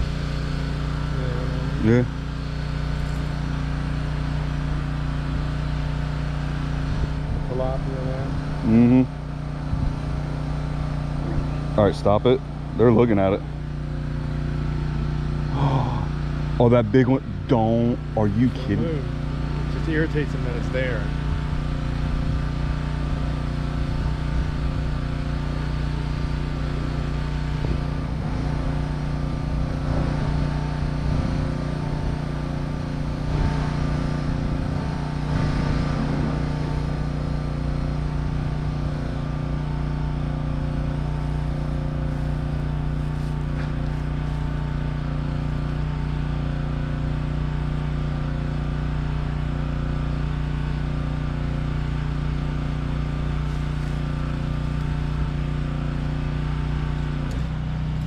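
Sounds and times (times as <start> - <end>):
motor hum with low drone: 0.0 - 58.0.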